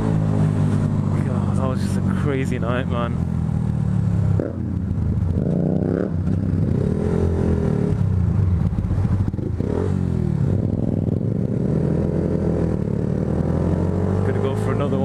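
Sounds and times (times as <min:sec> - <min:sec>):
motorcycle engines idling and revving: 0:00.0 - 0:15.0.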